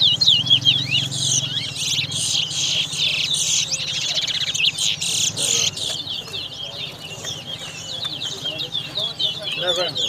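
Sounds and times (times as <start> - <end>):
songbirds chirping and trilling: 0.0 - 10.0.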